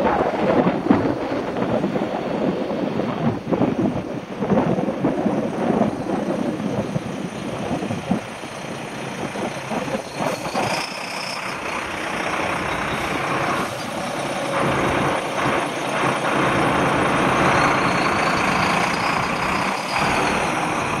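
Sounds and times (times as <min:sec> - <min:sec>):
diesel coach engine running: 0:00.0 - 0:21.0
road noise rush: 0:00.0 - 0:21.0.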